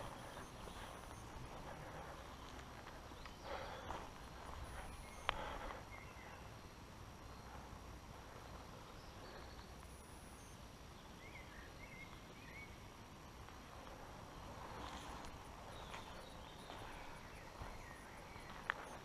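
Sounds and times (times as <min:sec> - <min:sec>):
faint low rumble: 0:00.0 - 0:19.0.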